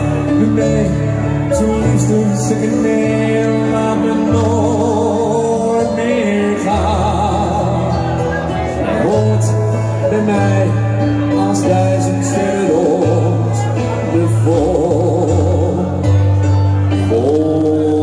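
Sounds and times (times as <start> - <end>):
backing music with bass: 0.0 - 18.0
man singing with vibrato: 0.0 - 18.0.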